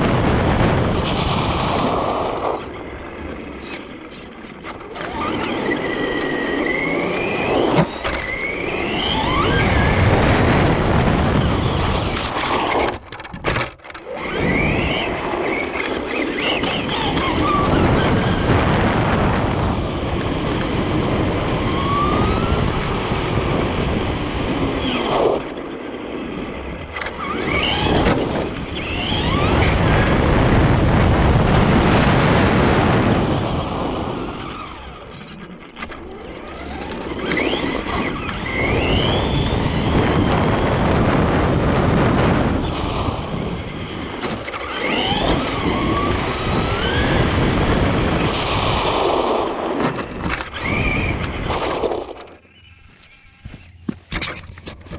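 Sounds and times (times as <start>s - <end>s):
electric motor whine: 0.0s - 54.9s
tyre and wind noise: 0.0s - 54.9s.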